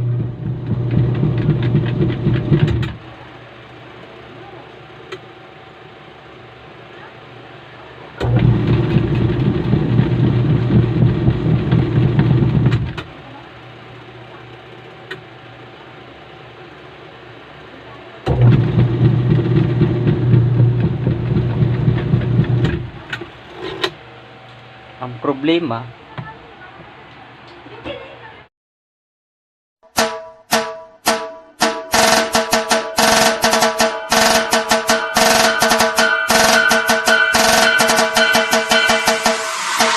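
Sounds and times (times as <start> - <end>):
washing machine rattling hum: 0.0 - 28.5, 31.0 - 39.9.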